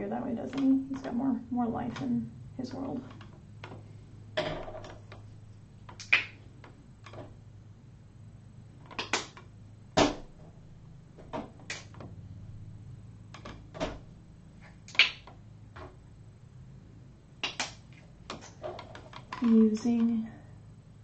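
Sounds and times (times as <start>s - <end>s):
faint low steady hum: 0.0s - 21.0s.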